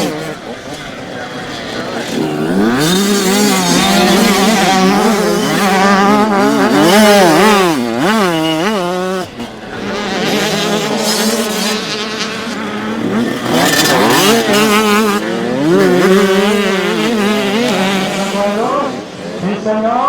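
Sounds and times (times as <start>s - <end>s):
motocross engines revving: 0.0s - 20.0s.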